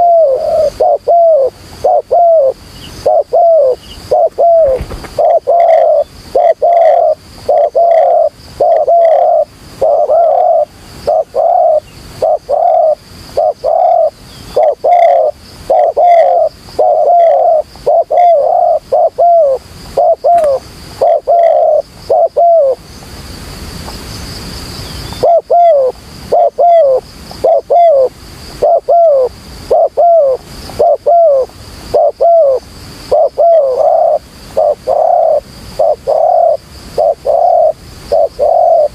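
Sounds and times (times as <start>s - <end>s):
doves cooing: 0.0s - 22.8s, 25.2s - 38.9s.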